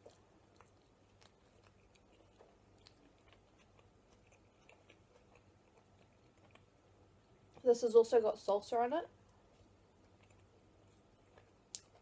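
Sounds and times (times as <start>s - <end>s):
faint chewing: 0.0s - 7.7s, 9.1s - 12.0s
low steady hum: 0.0s - 12.0s.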